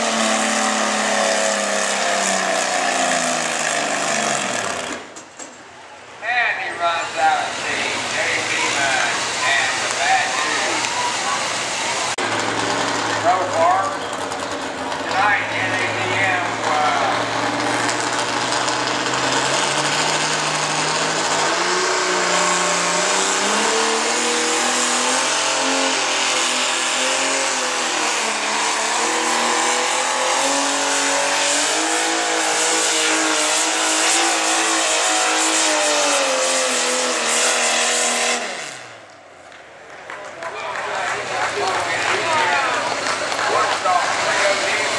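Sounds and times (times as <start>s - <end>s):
tractor engine at full throttle: 0.0s - 44.9s.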